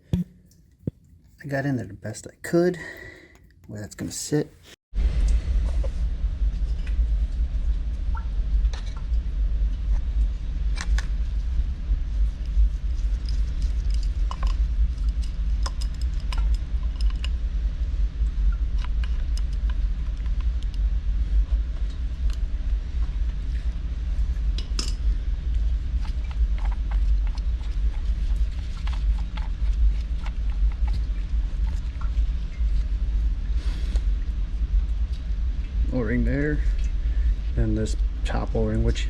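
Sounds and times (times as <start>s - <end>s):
steady low rumble: 5.0s - 39.0s.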